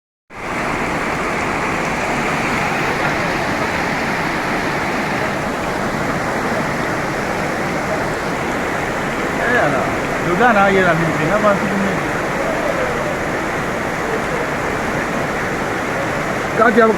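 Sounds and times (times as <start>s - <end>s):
heavy rain falling: 0.3s - 16.9s.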